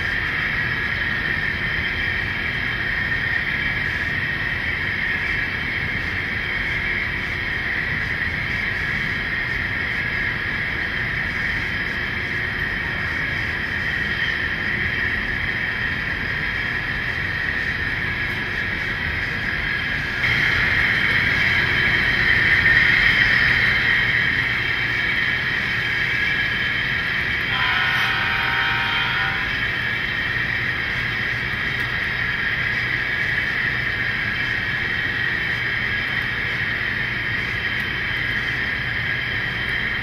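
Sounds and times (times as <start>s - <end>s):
model locomotives running on track: 0.0s - 40.0s.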